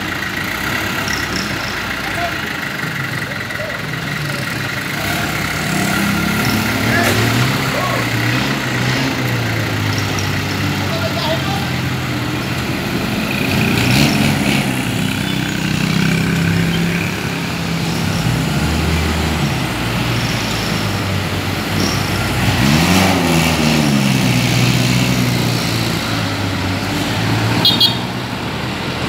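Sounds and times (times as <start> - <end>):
street traffic engines: 0.0 - 29.0.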